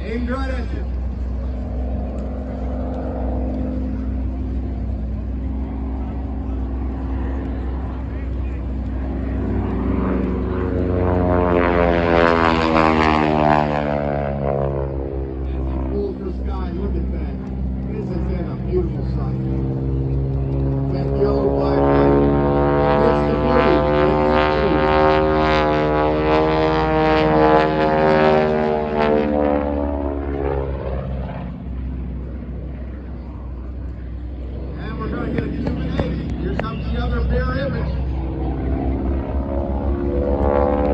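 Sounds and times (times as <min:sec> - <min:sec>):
propeller airplane passing: 0:00.0 - 0:40.9.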